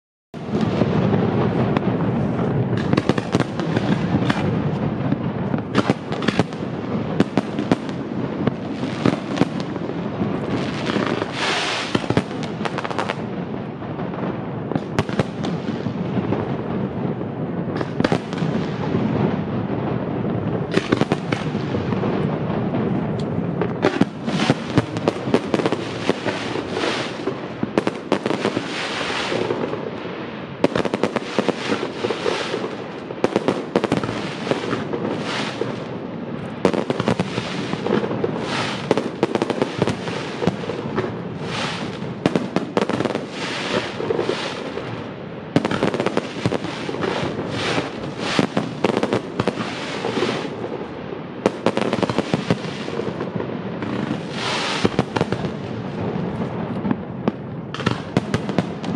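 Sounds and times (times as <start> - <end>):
fireworks bursting: 0.4 - 58.9
fireworks crackling: 0.4 - 58.9.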